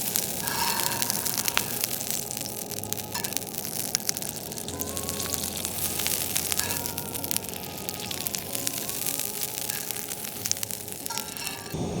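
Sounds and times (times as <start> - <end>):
campfire crackling and popping: 0.0 - 12.0
steady hiss: 0.0 - 12.0.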